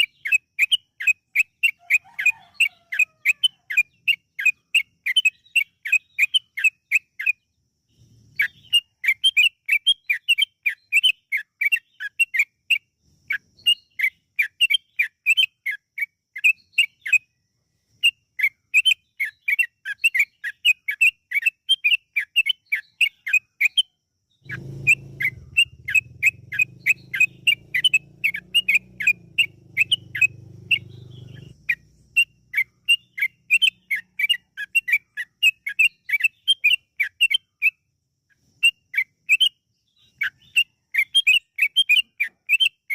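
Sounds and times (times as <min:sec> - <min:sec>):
bird chattering song: 0:00.0 - 0:42.9.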